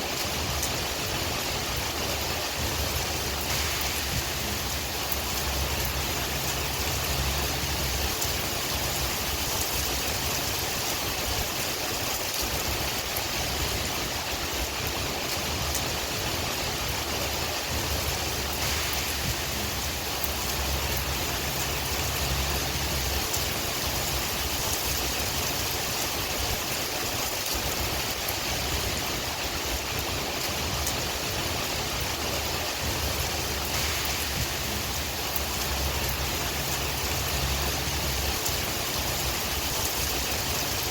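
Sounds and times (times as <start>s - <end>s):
low wind rumble: 0.0s - 40.9s
steady rain hissing: 0.0s - 40.9s.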